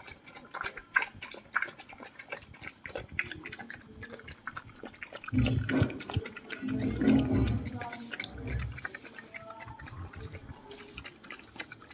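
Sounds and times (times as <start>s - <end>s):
puppies chewing and crunching: 0.0s - 11.9s.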